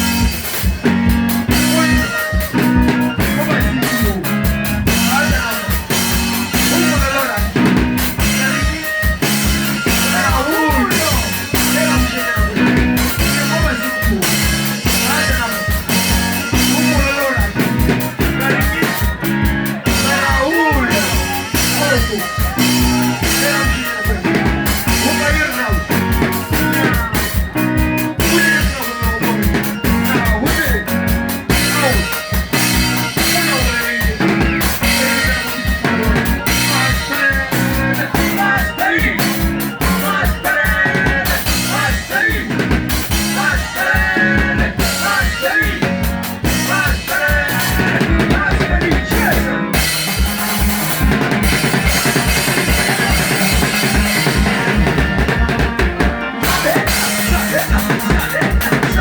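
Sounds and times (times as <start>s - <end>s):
band music with drum beat: 0.0s - 59.0s.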